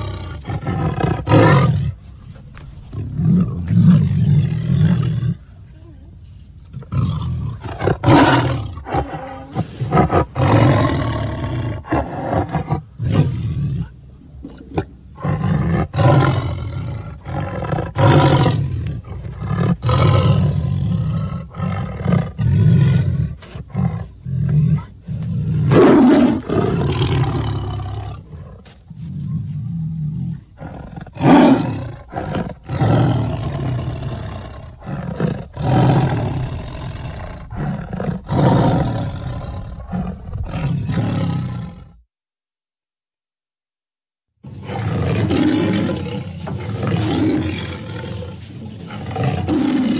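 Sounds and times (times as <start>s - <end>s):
tiger roaring and growling: 0.0s - 5.5s, 6.6s - 42.0s, 44.4s - 49.9s
continuous low rumble: 0.0s - 42.0s.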